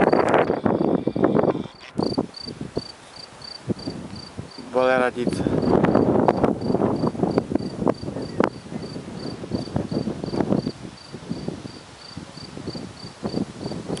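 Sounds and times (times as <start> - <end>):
cricket chirping: 0.0 - 4.7, 5.6 - 13.8.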